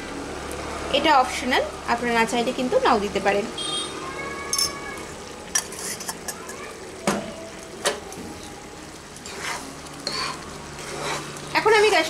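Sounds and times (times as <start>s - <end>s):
thick food bubbling in a pan: 0.0s - 12.0s.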